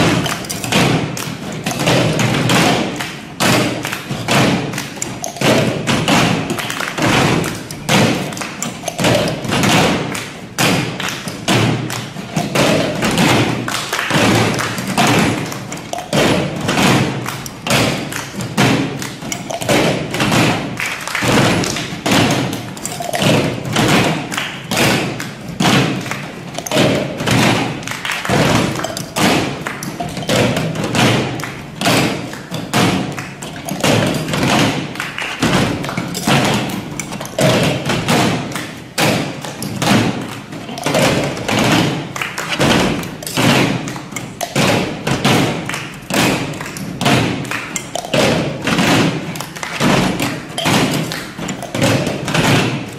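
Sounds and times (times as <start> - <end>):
cups knocked on a tabletop: 0.0 - 52.9
hands clapping in unison: 0.0 - 52.9.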